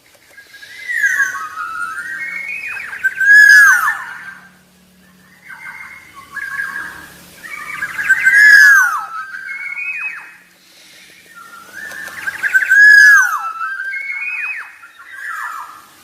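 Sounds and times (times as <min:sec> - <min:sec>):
bird singing fluty whistles: 0:00.4 - 0:15.9.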